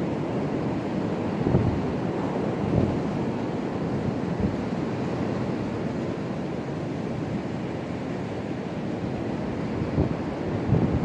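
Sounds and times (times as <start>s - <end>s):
strong wind rushing through trees: 0.0s - 11.0s.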